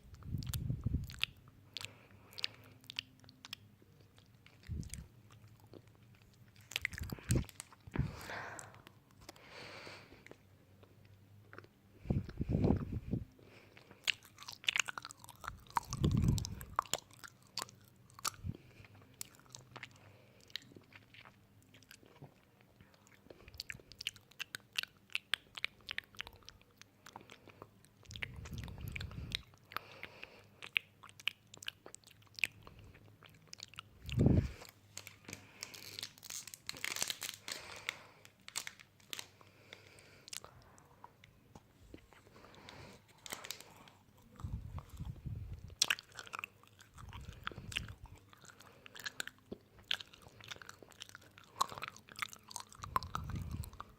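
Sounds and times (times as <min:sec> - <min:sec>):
crunching bites and chewing: 0:00.1 - 0:09.4, 0:10.1 - 0:53.9.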